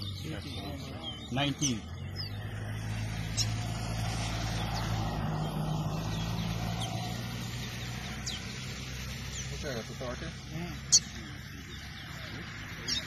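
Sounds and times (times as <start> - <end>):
small birds chirping: 0.0 - 13.0
vehicle engine running: 0.0 - 13.0.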